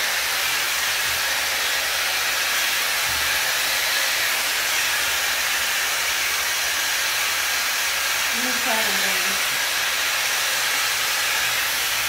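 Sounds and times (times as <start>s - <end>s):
hot air brush blowing: 0.0s - 12.0s.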